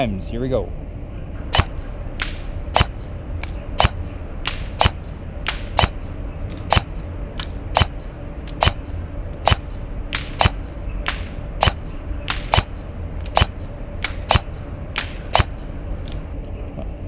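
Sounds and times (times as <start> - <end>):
airsoft rifle shots: 1.5 - 16.3.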